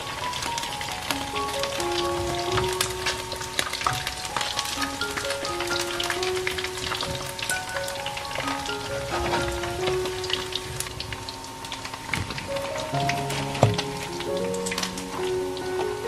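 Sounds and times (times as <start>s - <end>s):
chicken frying in hot oil: 0.0s - 16.0s
simple background melody: 0.0s - 16.0s.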